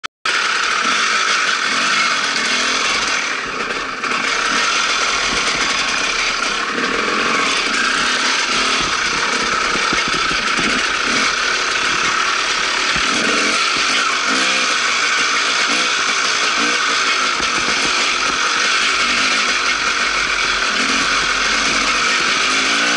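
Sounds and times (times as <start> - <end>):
dirt bike engine revving: 0.3 - 22.9.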